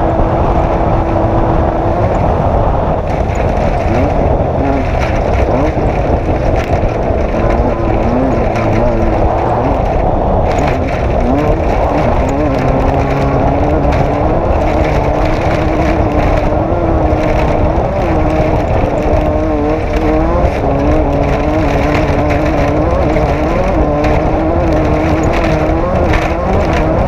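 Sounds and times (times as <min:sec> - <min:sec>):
off-road vehicle engine revving: 0:00.0 - 0:27.0
tyres rumbling over terrain: 0:00.0 - 0:27.0.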